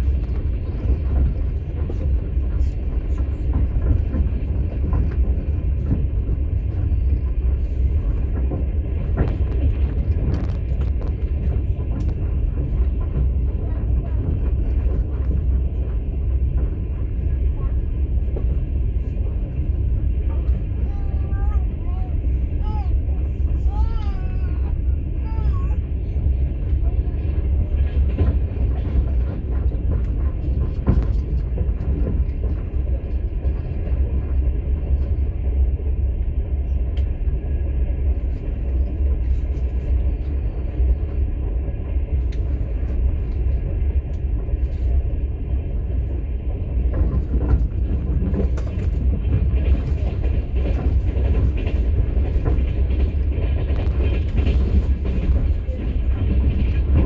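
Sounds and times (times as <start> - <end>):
train carriage rumbling on track: 0.0 - 57.0.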